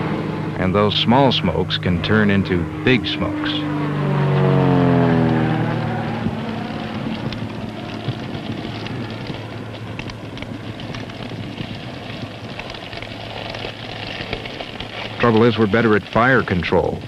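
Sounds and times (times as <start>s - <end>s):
fire crackling and rushing: 0.0s - 17.0s
light plane passing overhead: 0.0s - 17.0s.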